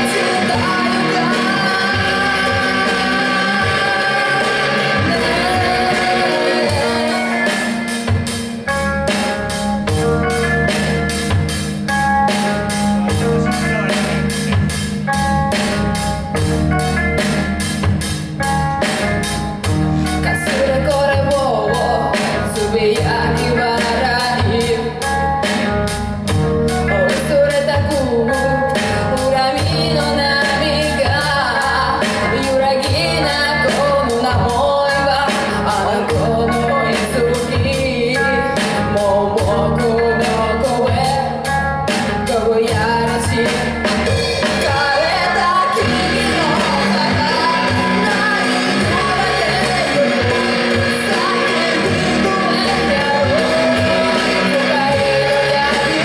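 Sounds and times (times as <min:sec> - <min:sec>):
rock song with singer and band: 0:00.0 - 0:56.0.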